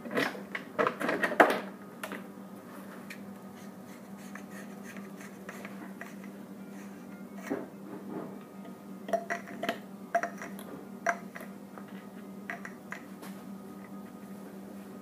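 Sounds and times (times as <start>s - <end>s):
steady low hum: 1.7s - 15.0s.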